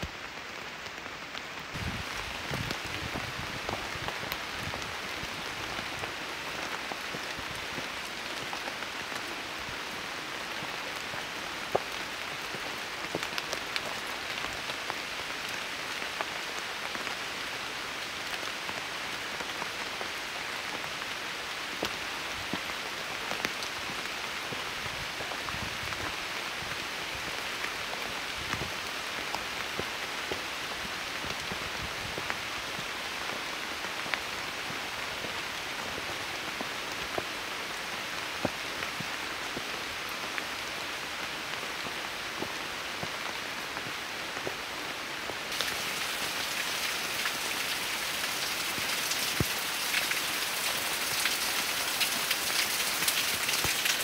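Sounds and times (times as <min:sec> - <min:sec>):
rain on forest foliage: 0:00.0 - 0:54.0.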